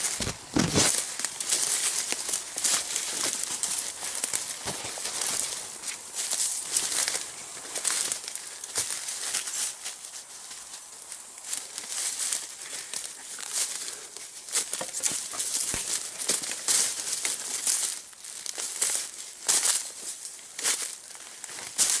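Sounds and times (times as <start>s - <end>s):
rustling through dry leaves: 0.0s - 22.0s.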